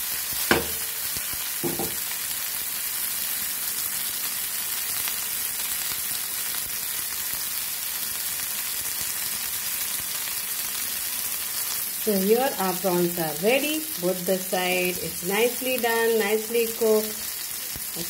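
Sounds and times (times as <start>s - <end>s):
prawns sizzling in hot oil: 0.0s - 18.0s.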